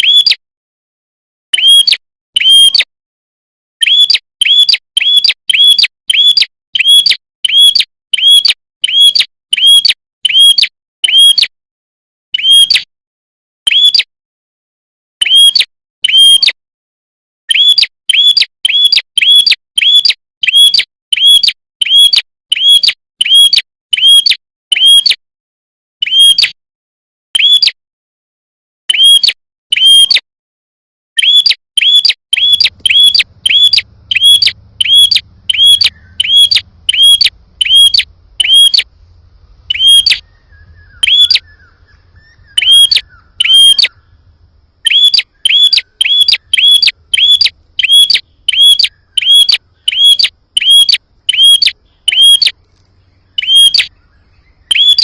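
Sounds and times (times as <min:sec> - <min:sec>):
bird call sharp chirps: 0:00.0 - 0:00.4, 0:01.5 - 0:02.9, 0:03.8 - 0:11.5, 0:12.4 - 0:12.9, 0:13.7 - 0:14.1, 0:15.2 - 0:16.6, 0:17.5 - 0:25.2, 0:26.0 - 0:26.6, 0:27.4 - 0:27.8, 0:28.9 - 0:30.2, 0:31.2 - 0:39.0, 0:39.6 - 0:55.0.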